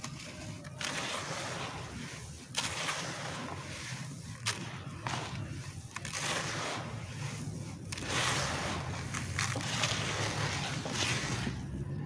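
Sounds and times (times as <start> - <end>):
hands sifting dry clay grit: 0.0 - 12.0.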